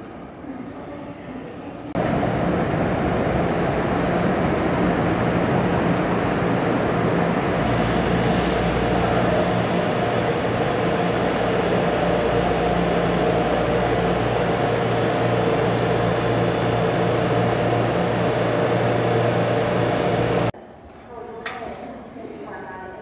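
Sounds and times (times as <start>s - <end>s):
electric train humming: 2.0s - 20.5s.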